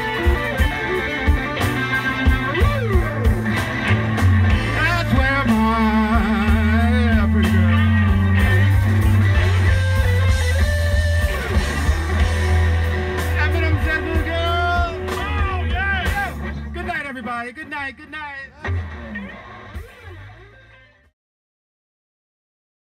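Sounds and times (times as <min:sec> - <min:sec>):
lead electric guitar bent notes: 0:00.0 - 0:21.1
live blues band playing: 0:00.0 - 0:21.1.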